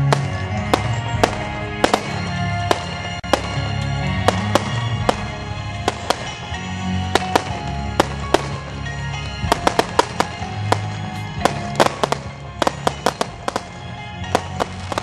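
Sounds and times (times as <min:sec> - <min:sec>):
background music: 0:00.0 - 0:15.0
fireworks bangs: 0:00.0 - 0:15.0.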